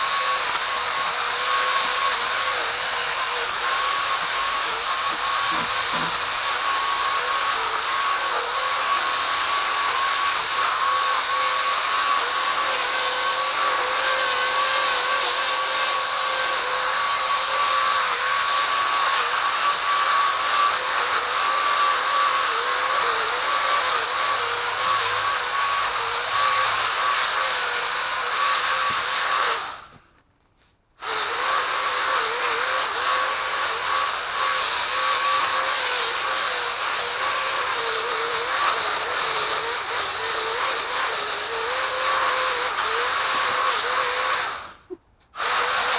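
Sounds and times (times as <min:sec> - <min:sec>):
pole saw motor whining: 0:00.0 - 0:30.0, 0:31.0 - 0:45.9.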